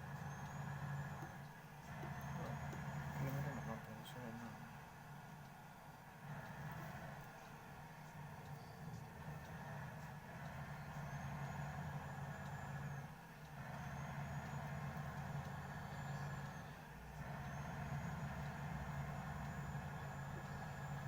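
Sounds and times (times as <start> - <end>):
car engine hum: 0.0 - 21.0
road and tyre noise: 0.0 - 21.0.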